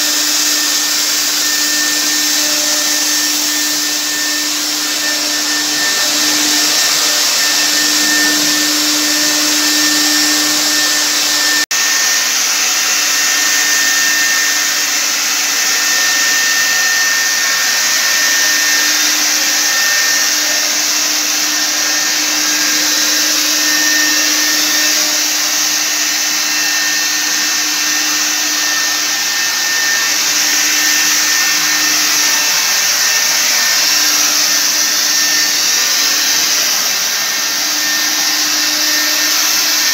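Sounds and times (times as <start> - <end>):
blower motor whine: 0.0 - 39.9.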